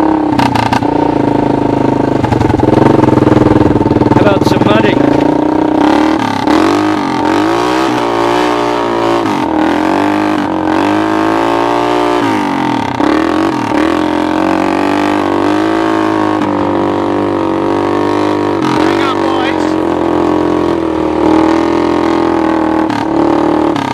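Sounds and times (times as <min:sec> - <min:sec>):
atv engine revving: 0:00.0 - 0:23.9.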